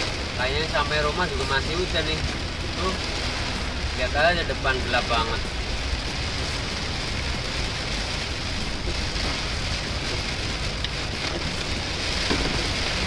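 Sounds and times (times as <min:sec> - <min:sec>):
heavy rain drumming on vehicle: 0:00.0 - 0:13.0
road and engine rumble: 0:00.0 - 0:13.0.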